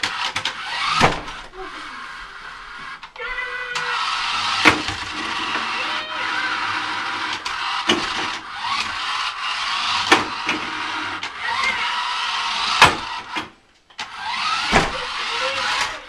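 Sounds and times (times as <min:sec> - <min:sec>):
toy car motors whirring: 0:00.0 - 0:16.0.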